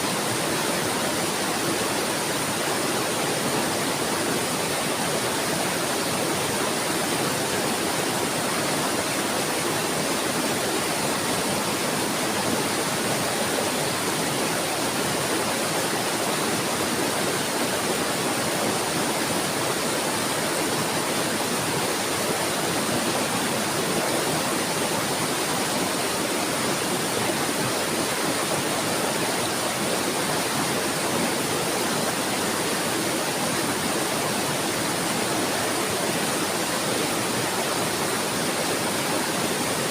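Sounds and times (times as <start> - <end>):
water babbling: 0.0 - 39.9.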